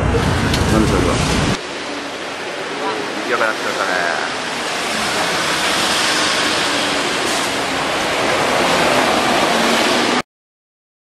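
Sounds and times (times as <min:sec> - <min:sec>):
road traffic rushing past: 0:00.0 - 0:10.2.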